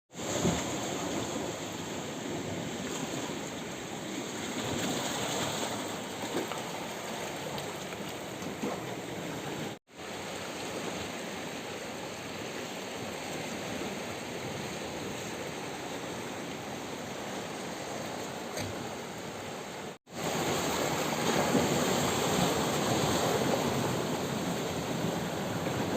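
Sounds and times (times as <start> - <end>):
sea waves washing over rocks: 0.1 - 25.9.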